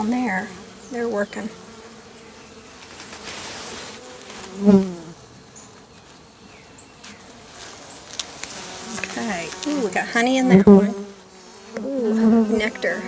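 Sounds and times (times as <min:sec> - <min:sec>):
bee buzzing close by: 0:00.0 - 0:13.0
bees buzzing around hive: 0:00.0 - 0:13.0.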